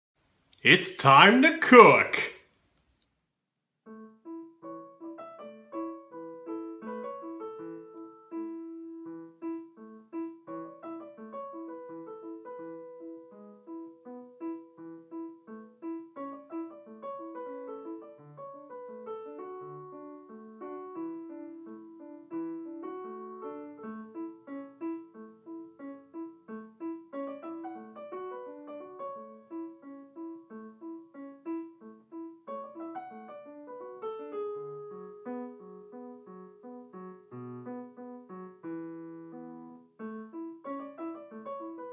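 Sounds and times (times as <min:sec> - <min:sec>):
solo piano music: 0:03.8 - 0:41.9.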